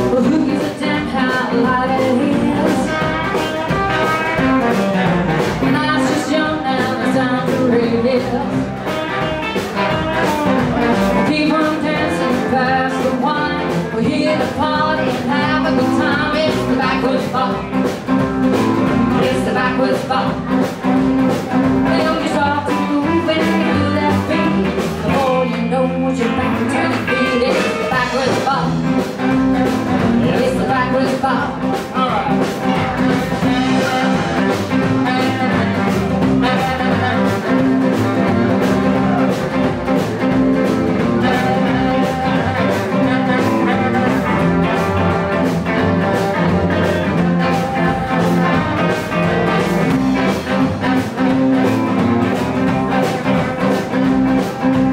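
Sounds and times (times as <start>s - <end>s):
live blues band playing: 0.0s - 54.9s.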